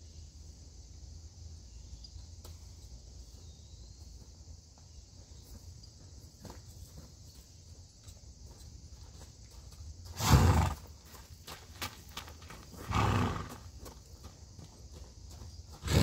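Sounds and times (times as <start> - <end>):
hoofbeats on gravel: 3.2 - 16.0.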